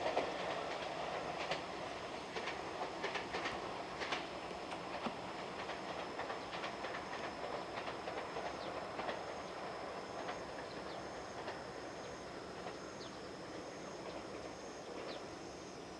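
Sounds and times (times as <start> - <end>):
electric train rumbling: 0.0 - 15.9.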